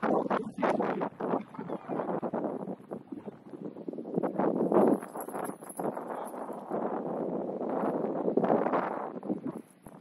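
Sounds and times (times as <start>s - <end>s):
wind buffeting the microphone: 0.0s - 10.0s.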